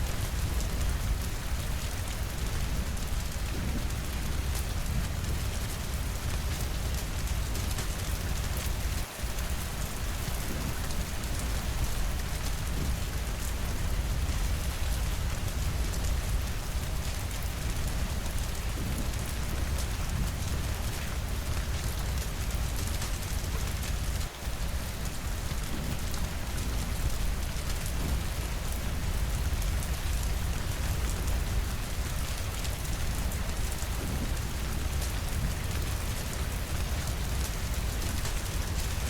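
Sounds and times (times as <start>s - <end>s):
steady rainfall: 0.0s - 39.0s.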